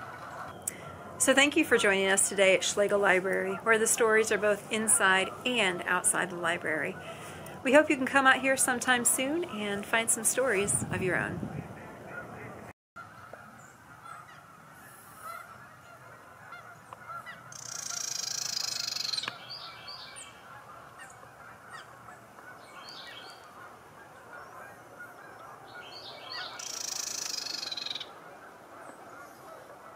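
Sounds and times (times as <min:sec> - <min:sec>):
geese honking: 0:00.0 - 0:29.9.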